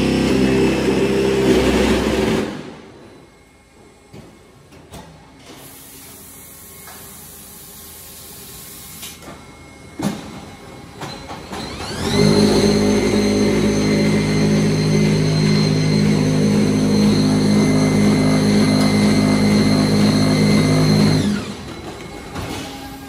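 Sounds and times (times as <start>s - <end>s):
machine motors whining and humming: 0.0s - 23.0s.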